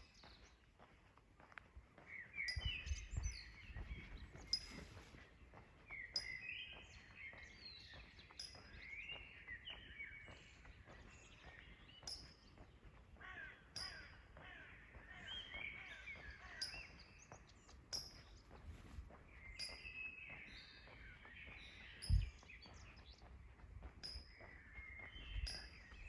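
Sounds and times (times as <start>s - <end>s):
songbirds chirping and whistling: 0.0s - 1.2s, 1.8s - 26.0s.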